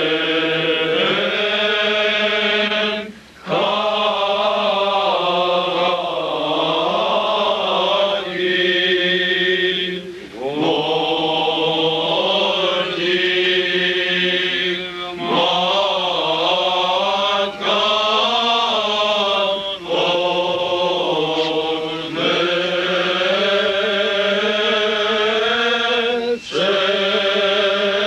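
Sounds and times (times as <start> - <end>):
men singing a chant: 0.0 - 28.0.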